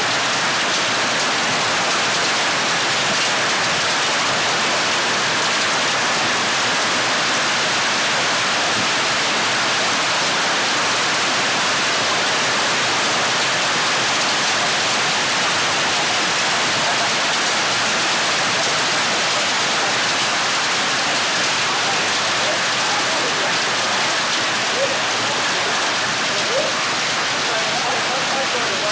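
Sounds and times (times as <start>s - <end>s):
hail and rain falling hard: 0.0s - 28.9s.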